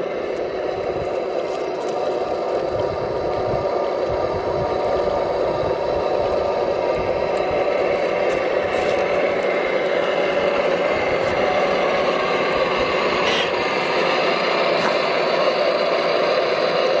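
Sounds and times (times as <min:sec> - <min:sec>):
toy vehicle motor whine: 0:00.0 - 0:17.0.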